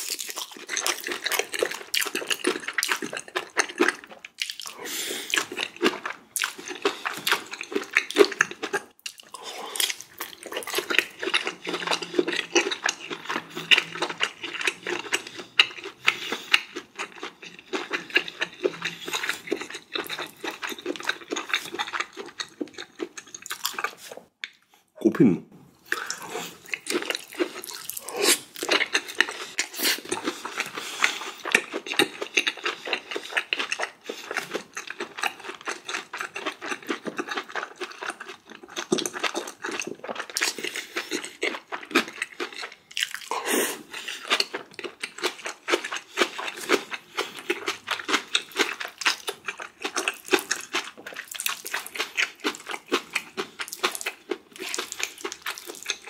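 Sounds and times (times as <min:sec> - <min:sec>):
person chewing and crunching food: 0:00.0 - 0:24.9, 0:25.7 - 0:56.0.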